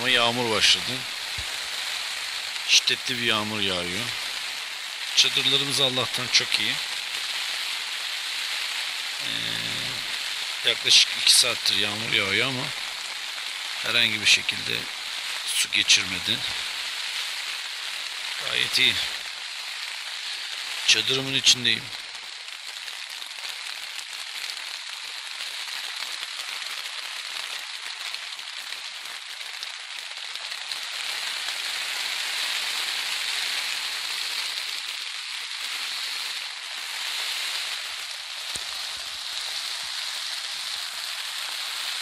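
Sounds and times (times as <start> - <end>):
heavy rain on tent fabric: 0.0 - 42.0.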